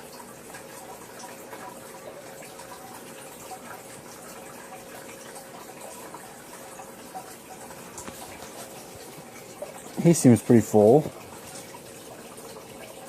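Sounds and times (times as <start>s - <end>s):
aquarium water trickling: 0.0s - 13.0s
faint steady hum: 0.0s - 13.0s.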